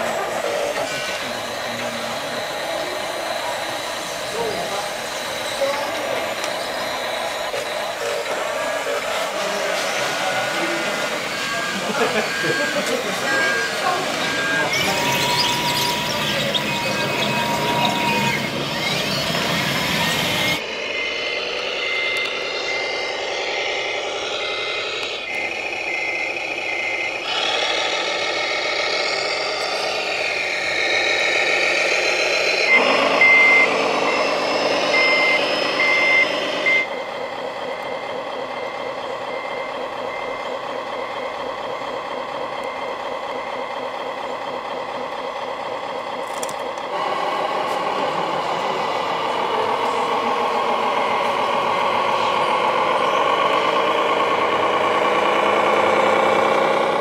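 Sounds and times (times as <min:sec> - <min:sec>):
electronic reversing beeper: 0:00.0 - 0:46.2, 0:46.9 - 0:57.0
simulated truck engine: 0:00.0 - 0:57.0.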